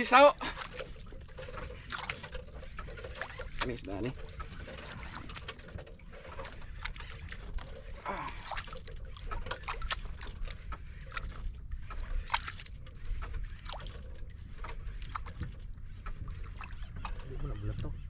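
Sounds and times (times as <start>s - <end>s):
water splashing against boat hull: 0.0s - 18.0s.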